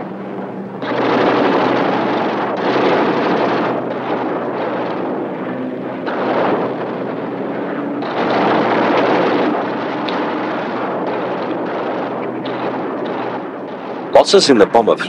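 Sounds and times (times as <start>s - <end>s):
aircraft engines droning: 0.0s - 15.0s
heavy rumbling blasts: 0.0s - 15.0s.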